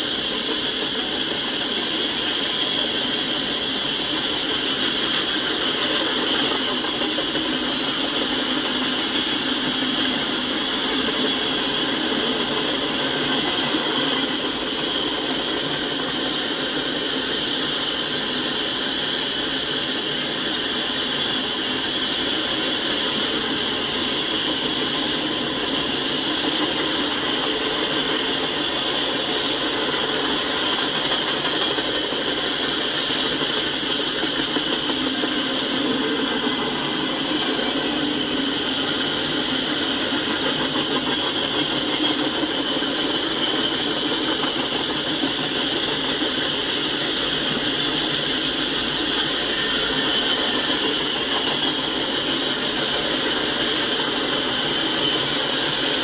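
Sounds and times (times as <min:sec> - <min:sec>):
continuous high hiss: 0:00.0 - 0:56.0
steel wheels rumbling on rails: 0:00.0 - 0:56.0.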